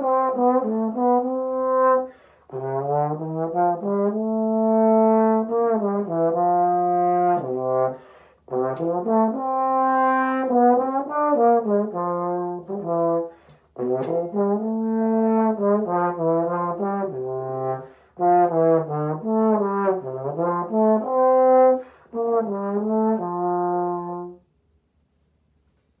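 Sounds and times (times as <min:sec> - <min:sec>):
solo trombone: 0:00.0 - 0:24.6.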